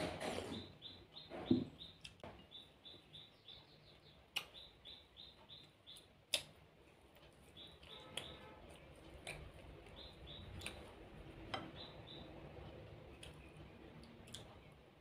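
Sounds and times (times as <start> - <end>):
small bird chirping: 0.5 - 6.6, 7.2 - 13.9.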